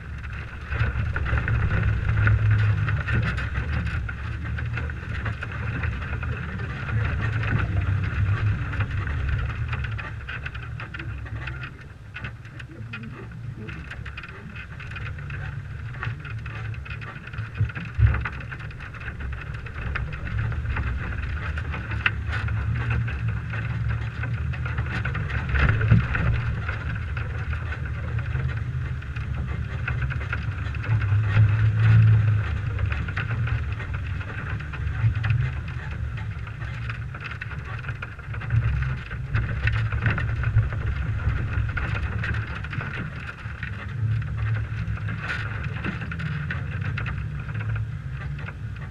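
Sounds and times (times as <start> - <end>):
wind rumbling on microphone: 0.0 - 48.9.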